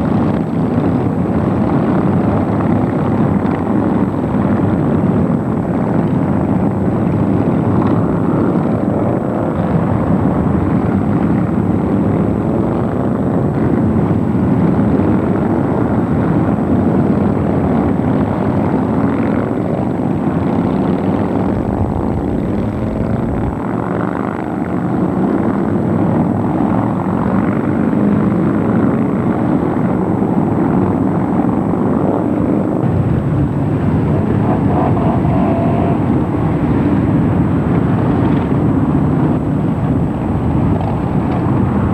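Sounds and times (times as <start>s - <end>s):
motorcycle engines rumbling: 0.0s - 41.9s.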